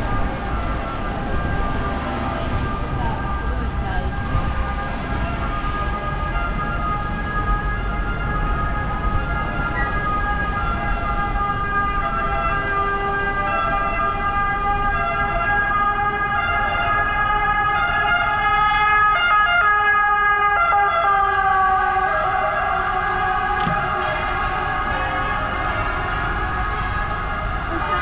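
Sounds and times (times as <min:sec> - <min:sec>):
emergency vehicle siren: 0:00.0 - 0:28.0
street traffic noise: 0:00.0 - 0:28.0.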